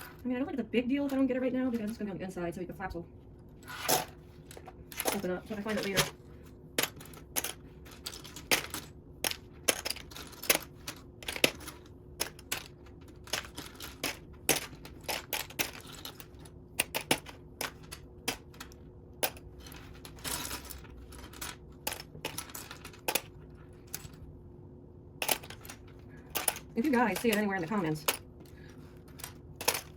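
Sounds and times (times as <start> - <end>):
plastic toy bricks clattering: 3.7 - 6.2, 6.8 - 24.2, 25.2 - 29.9.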